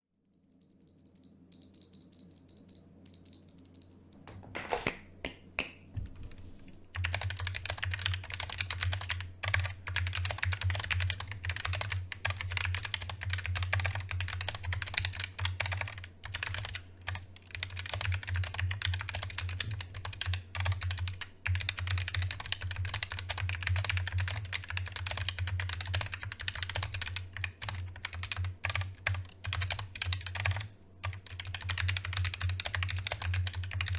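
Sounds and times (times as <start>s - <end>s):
keyboard typing: 0.2s - 4.9s, 6.0s - 33.9s.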